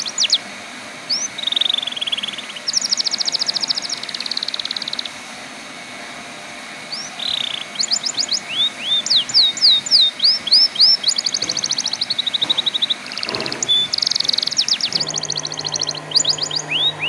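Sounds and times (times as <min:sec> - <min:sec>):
canary singing: 0:00.0 - 0:05.2, 0:06.9 - 0:17.0.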